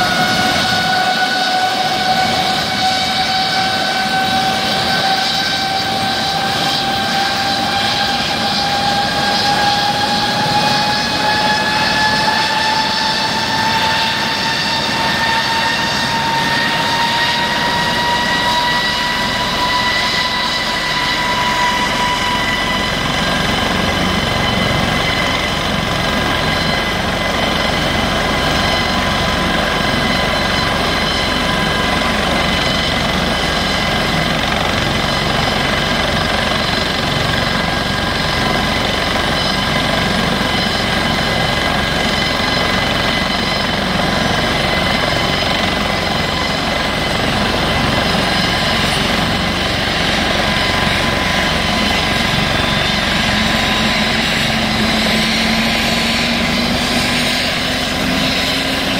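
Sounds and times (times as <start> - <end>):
helicopter rotor beat: 0.0 - 58.9
turbine engine whine: 0.0 - 58.9.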